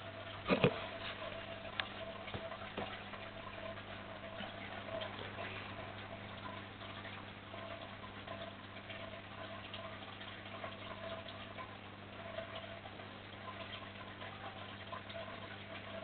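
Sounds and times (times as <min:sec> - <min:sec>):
aquarium filter humming: 0:00.0 - 0:16.0.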